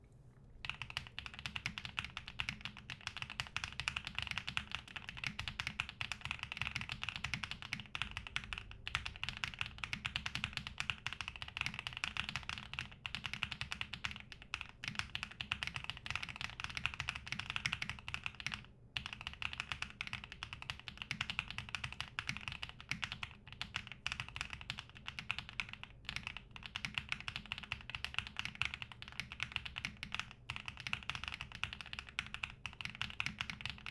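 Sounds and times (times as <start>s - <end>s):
fast mechanical keyboard typing: 0.6s - 33.9s.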